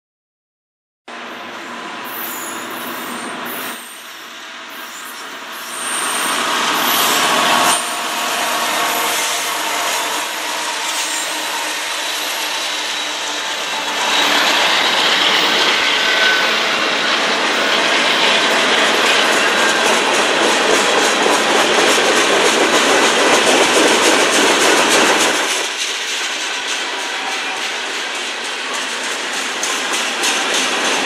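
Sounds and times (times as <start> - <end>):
freight train passing: 1.1 - 31.0.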